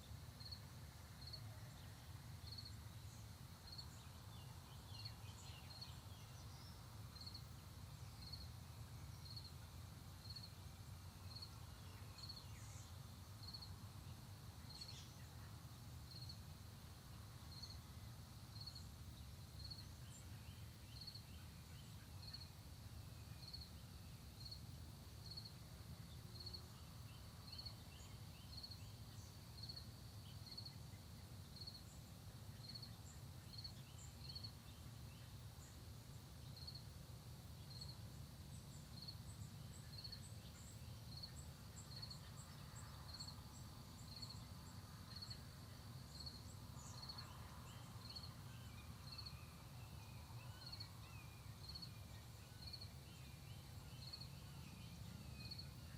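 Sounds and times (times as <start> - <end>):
insect chirping: 0.0 - 55.9.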